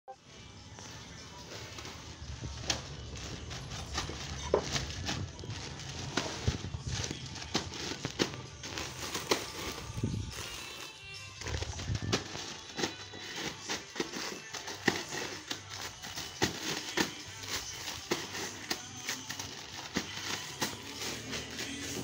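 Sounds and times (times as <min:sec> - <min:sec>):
plastic bag crinkling: 0:00.9 - 0:22.0.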